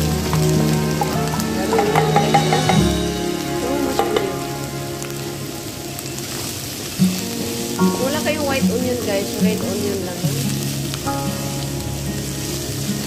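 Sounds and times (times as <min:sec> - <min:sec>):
background music: 0:00.0 - 0:13.0
onions sizzling in frying pan: 0:00.0 - 0:13.0.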